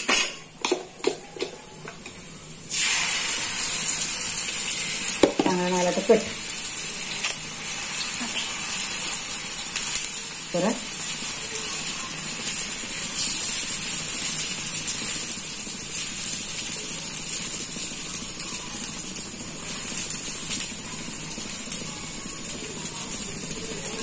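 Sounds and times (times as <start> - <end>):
batter sizzling on hot iron: 0.0 - 24.0.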